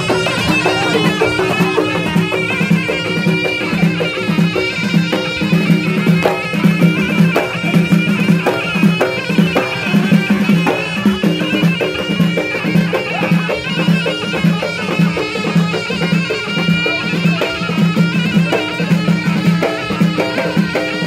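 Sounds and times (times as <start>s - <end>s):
reedy wind instrument melody: 0.0s - 21.0s
steady drum beat: 0.0s - 21.0s.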